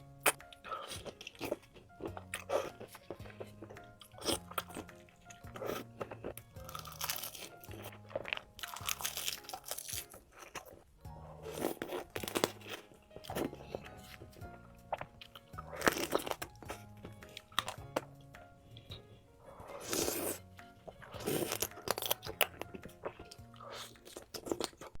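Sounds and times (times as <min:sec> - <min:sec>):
crunching bites and chewing: 0:00.0 - 0:25.0.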